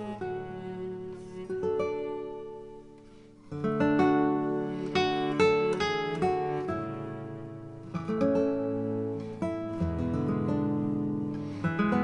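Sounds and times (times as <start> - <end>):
slow acoustic guitar melody: 0.0 - 12.0.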